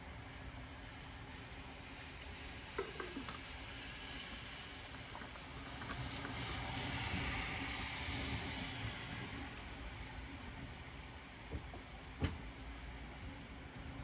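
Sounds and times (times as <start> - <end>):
steady rain: 0.0 - 14.0
car tyres hissing on wet road: 0.1 - 14.0.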